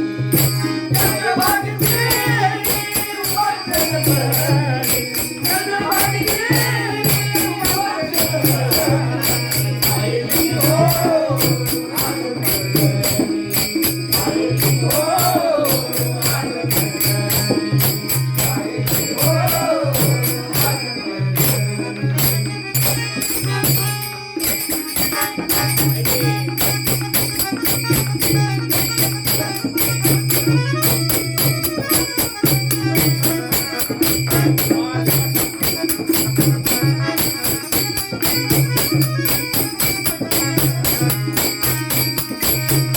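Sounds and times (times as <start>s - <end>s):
fast jingling percussion: 0.0s - 42.9s
wavering melody: 0.0s - 42.9s.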